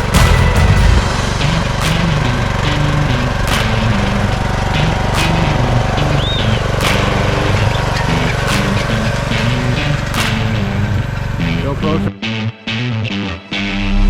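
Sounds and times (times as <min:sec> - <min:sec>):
wood chipper engine running: 0:00.0 - 0:12.1.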